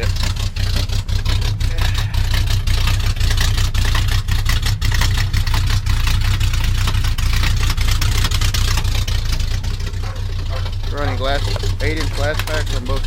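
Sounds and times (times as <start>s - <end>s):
pickup engine exhaust rumble: 0.0s - 13.0s.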